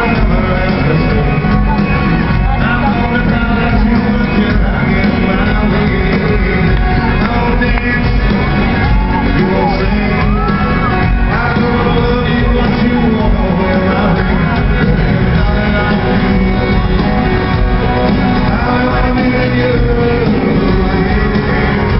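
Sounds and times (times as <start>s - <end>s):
live rock band playing: 0.0s - 21.9s
man singing: 0.0s - 21.9s.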